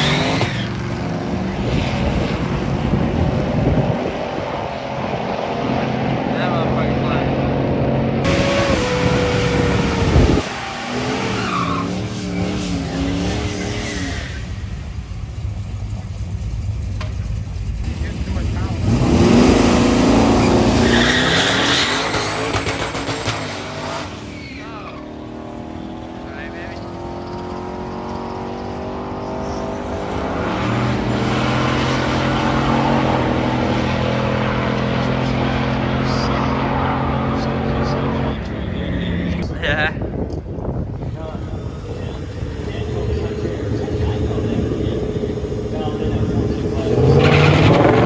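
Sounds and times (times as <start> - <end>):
car engine revving hard: 0.0 - 17.1, 17.7 - 39.8, 40.6 - 48.0
tires squealing: 0.0 - 48.0.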